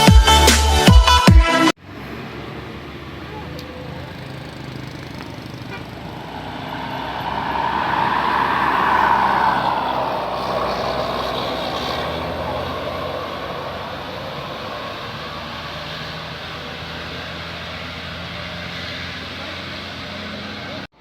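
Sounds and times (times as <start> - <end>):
heavy vehicle passing: 1.8 - 20.6.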